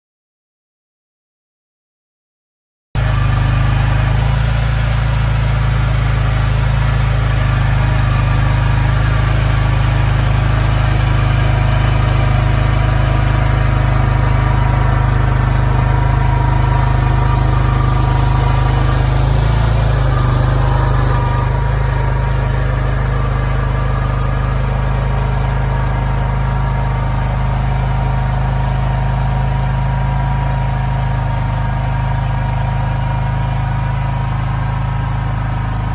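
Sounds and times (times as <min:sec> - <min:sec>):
loader engine running: 0:03.0 - 0:35.9.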